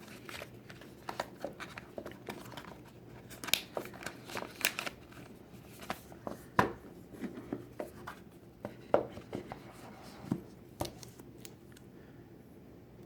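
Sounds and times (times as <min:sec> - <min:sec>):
hands handling cardboard packaging: 0:00.0 - 0:11.5.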